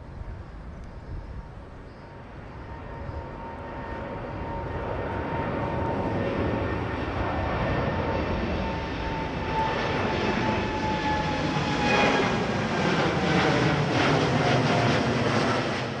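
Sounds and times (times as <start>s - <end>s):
jet engines roaring: 1.5s - 16.0s.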